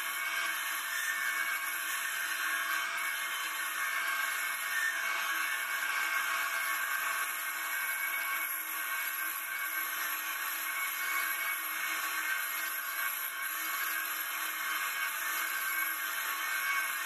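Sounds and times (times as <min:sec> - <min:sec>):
lathe motor whine: 0:00.0 - 0:17.0.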